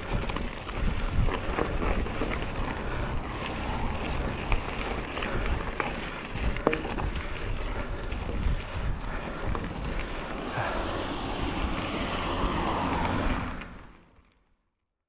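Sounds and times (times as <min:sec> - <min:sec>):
wind buffeting microphone: 0:00.0 - 0:13.9
bike clicking and rattling: 0:00.0 - 0:14.4
bike tyres rushing on dirt: 0:00.0 - 0:14.4.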